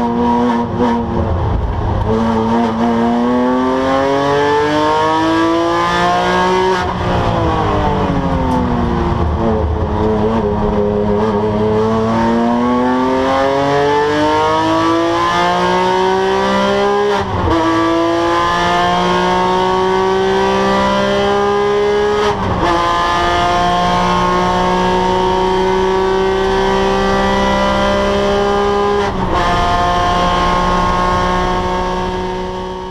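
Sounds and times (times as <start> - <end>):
car engine revving and upshifting: 0.0 - 32.9.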